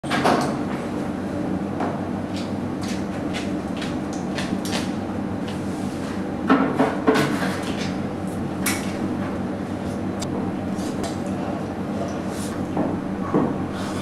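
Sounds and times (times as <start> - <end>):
steady low hum: 1.1 - 14.0.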